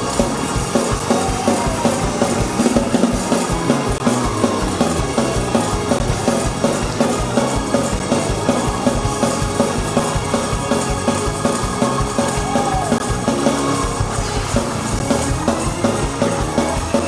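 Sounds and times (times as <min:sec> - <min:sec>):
drum kit quick beat: 0:00.0 - 0:17.0
fast gospel music: 0:00.0 - 0:17.0.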